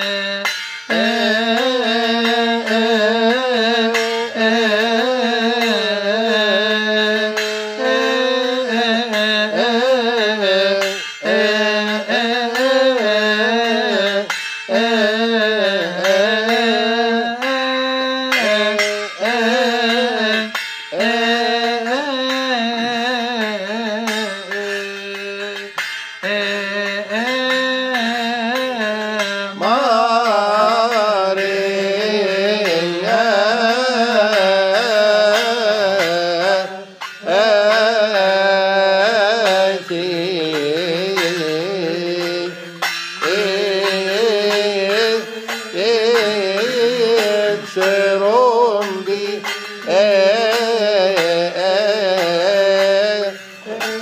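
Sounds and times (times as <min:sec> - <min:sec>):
brass hand cymbals: 0:00.0 - 0:22.8, 0:23.4 - 0:54.0
hymn chanted: 0:00.0 - 0:54.0.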